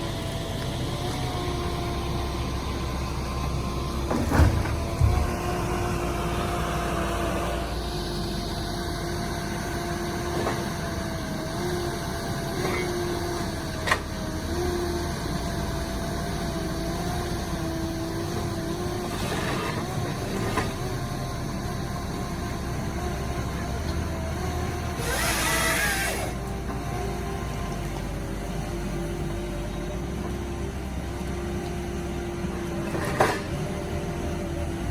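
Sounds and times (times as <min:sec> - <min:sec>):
heavy machine engine running: 0:00.0 - 0:34.9.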